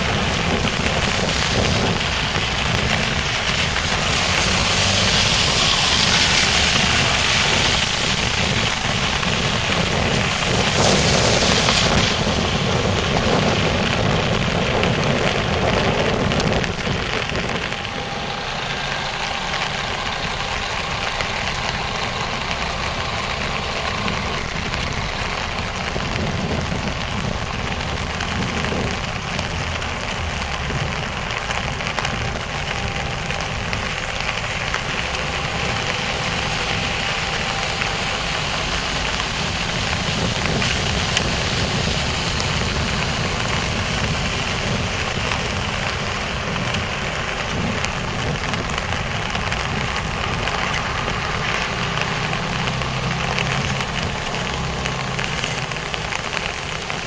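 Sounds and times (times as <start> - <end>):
heavy rain on umbrella: 0.0 - 57.0
steady low rumble: 0.0 - 57.0.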